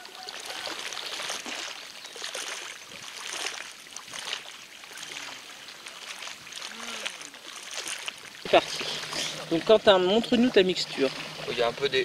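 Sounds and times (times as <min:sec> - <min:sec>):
small waves lapping: 0:00.0 - 0:12.0.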